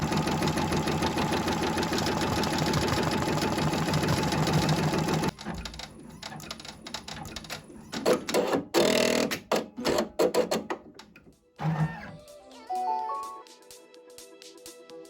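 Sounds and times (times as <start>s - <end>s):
sewing machine stitching: 0.0s - 12.3s.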